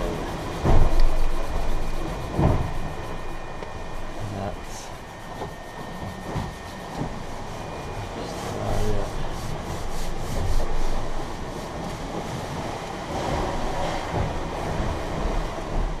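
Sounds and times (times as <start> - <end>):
sailcloth being rubbed by hand: 0.0 - 15.7.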